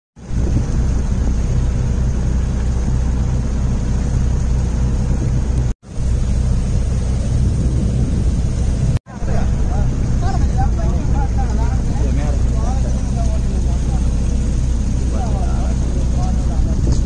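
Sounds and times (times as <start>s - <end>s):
wind on microphone: 0.2s - 12.6s, 14.2s - 17.0s
boat engine rumbling: 0.2s - 17.0s
sea wash: 0.2s - 17.0s.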